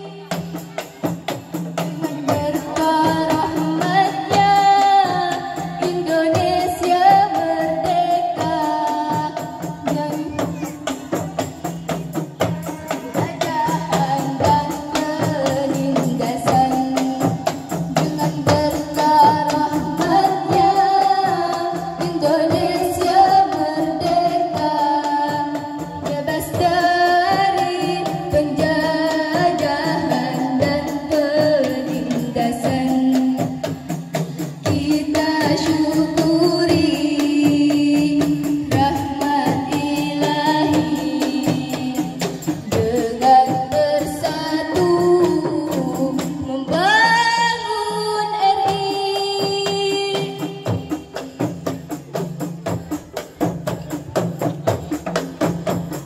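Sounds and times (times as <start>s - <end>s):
women singing: 0.0s - 51.7s
frame drums beating: 0.0s - 56.0s.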